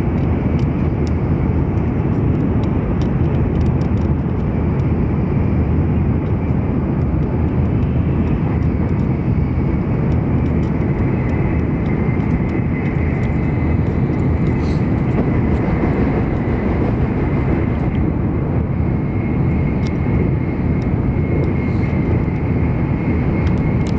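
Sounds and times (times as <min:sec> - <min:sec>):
train cabin rumble: 0:00.0 - 0:23.9.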